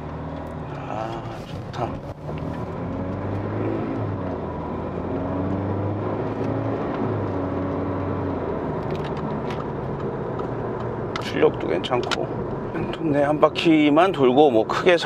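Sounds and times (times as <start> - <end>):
diesel engine accelerating: 0.0 - 15.0
tyre and road noise: 0.0 - 15.0.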